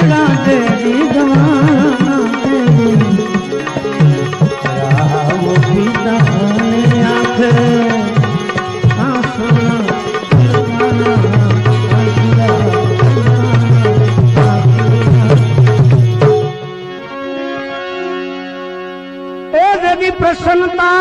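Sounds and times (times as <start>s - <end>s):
wavering melodic instrument: 0.0s - 17.0s
tabla playing: 0.0s - 18.2s.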